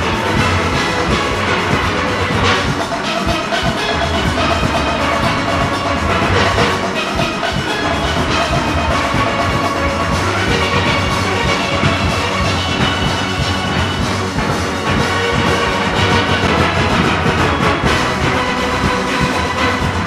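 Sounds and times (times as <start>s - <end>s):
drums and percussion: 0.0s - 20.0s
steelpans ringing: 0.0s - 20.0s.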